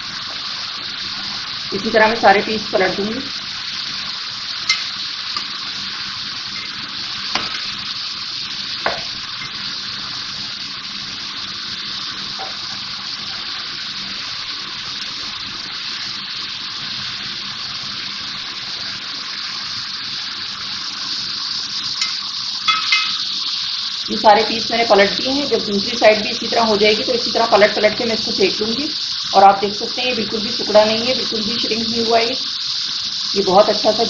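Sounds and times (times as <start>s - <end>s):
chicken sizzling in oil: 0.0s - 34.0s.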